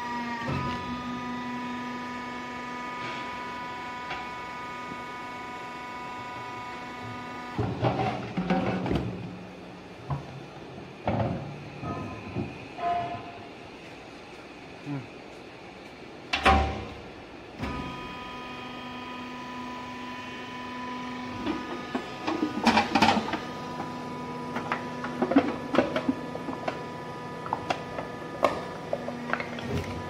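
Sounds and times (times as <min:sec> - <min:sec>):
motor and hydraulic pump whine: 0:00.0 - 0:30.0.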